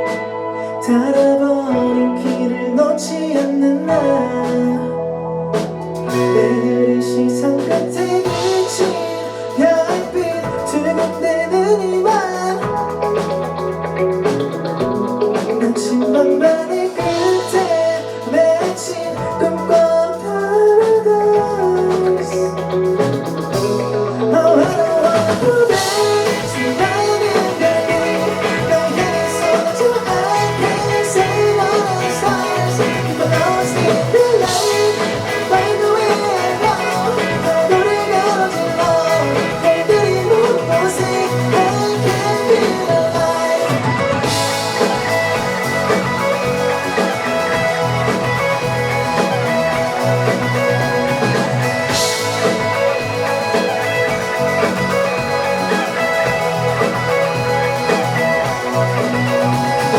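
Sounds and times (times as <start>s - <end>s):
guitar: 0.0s - 59.9s
live band instrumental: 0.0s - 59.9s.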